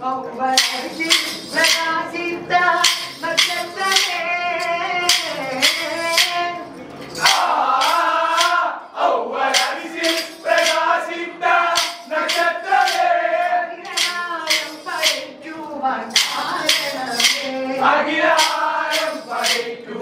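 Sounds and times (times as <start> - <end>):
group singing: 0.2 - 20.0
wooden sticks clacking: 0.6 - 2.0, 2.8 - 8.7, 9.5 - 15.4, 16.1 - 19.7.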